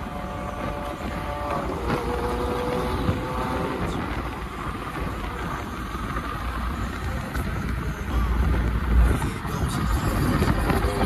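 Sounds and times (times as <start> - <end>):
car cabin road noise: 0.0 - 11.0
engine tone: 0.0 - 11.0.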